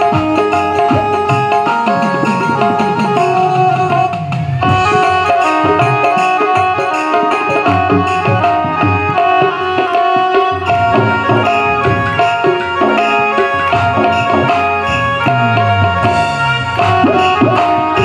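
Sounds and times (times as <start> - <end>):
held melody notes: 0.0 - 18.0
tabla drumming: 0.0 - 18.0.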